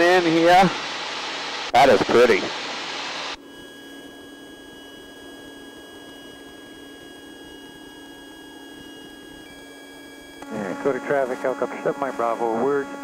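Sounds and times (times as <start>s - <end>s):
electrical whine in headset: 0.0s - 13.0s.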